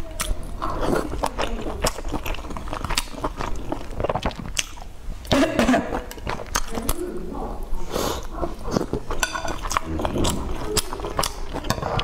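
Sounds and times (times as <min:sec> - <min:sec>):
close-up chewing: 0:00.0 - 0:07.1, 0:07.8 - 0:12.0.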